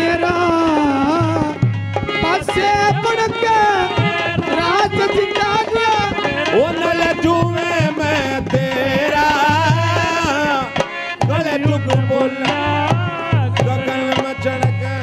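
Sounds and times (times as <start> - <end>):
held folk melody line: 0.0 - 15.0.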